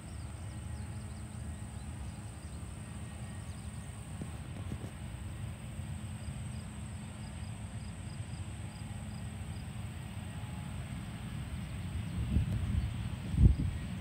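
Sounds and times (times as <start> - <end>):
distant jet engines rumbling: 0.0 - 14.0.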